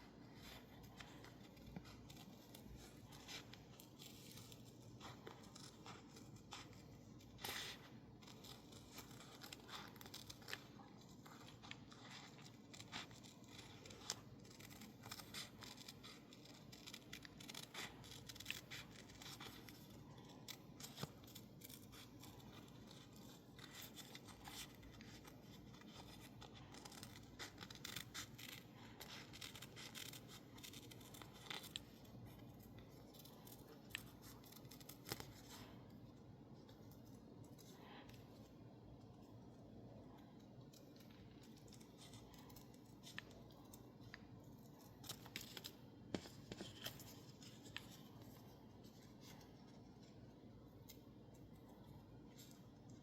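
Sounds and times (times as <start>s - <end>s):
paper rustling: 0.0s - 38.2s, 40.8s - 53.0s.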